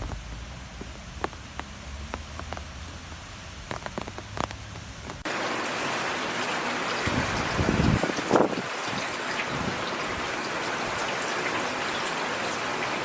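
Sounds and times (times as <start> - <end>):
heavy downpour: 0.0 - 13.0
rain drops falling: 0.0 - 13.0.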